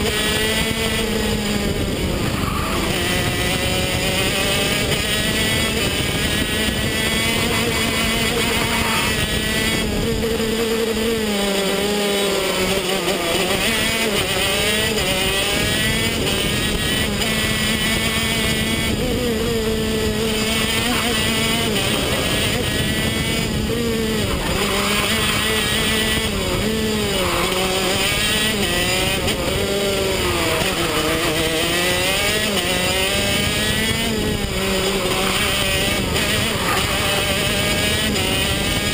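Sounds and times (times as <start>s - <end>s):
kart engine accelerating and braking: 0.0s - 38.9s.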